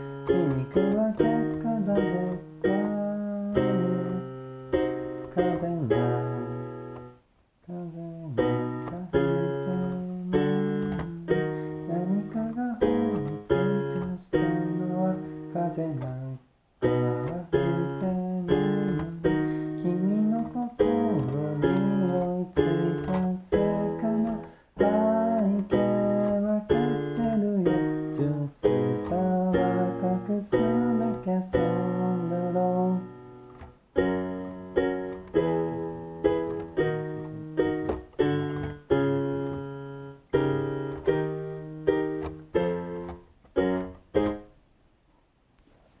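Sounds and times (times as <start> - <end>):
electronic keyboard piano chords: 0.0 - 7.2, 8.2 - 44.6.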